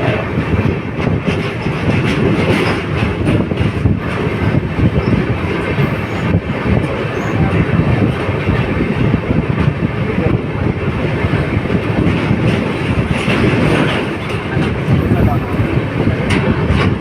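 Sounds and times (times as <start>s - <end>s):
train rumbling over bridge: 0.0s - 17.0s
wheels clattering on rails: 0.0s - 17.0s.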